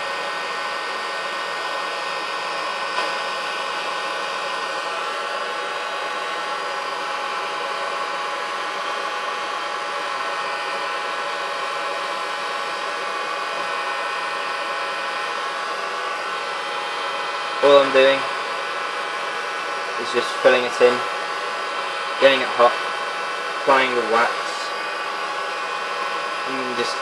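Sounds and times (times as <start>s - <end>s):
heat gun fan whining: 0.0s - 27.0s.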